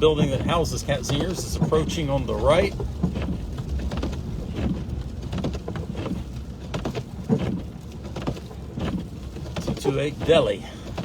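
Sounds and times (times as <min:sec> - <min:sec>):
engine and tyres rumbling: 0:00.0 - 0:11.0
tyres swishing through slush: 0:00.0 - 0:11.0.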